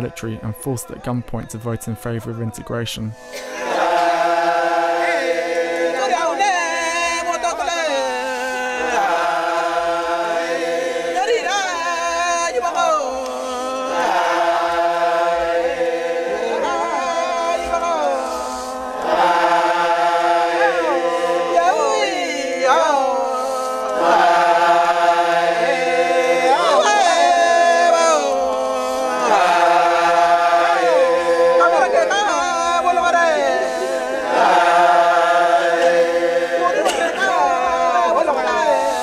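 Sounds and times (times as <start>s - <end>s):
men chanting together: 3.2s - 39.0s.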